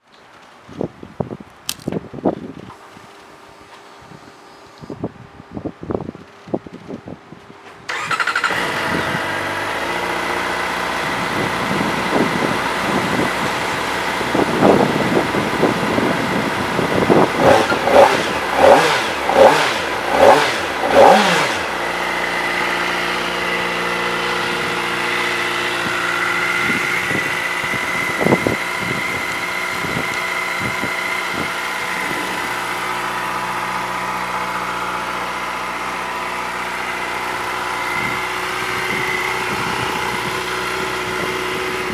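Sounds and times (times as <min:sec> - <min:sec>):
motorcycle engine idling: 0:07.9 - 0:41.9
motorcycle throttle blips: 0:07.9 - 0:41.9.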